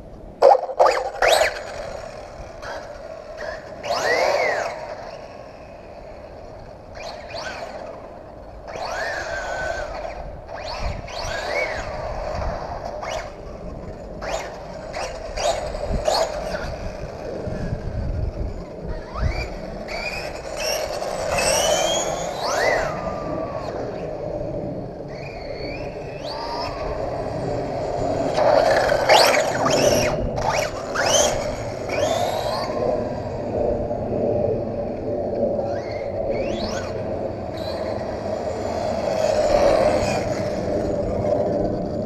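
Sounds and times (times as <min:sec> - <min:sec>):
electric motor whine: 0:00.8 - 0:42.0.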